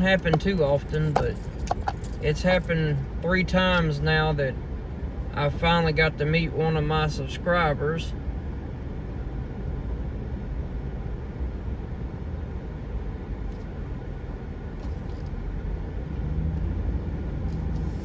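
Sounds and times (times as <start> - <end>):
car engine hum: 0.0 - 18.0
road rumble: 0.0 - 18.0.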